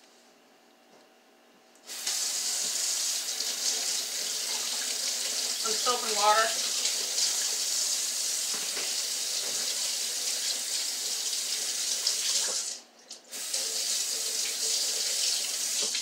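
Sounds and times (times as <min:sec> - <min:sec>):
tap water running: 0:01.8 - 0:16.0.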